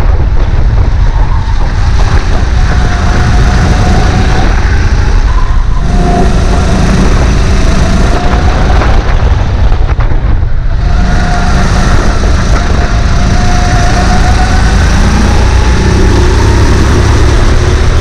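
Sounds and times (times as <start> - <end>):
kart engine rumbling: 0.0 - 18.0.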